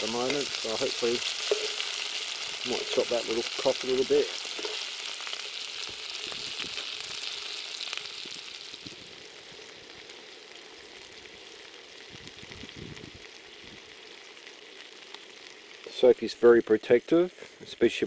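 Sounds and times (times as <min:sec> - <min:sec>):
prawns sizzling in a pan: 0:00.0 - 0:18.0.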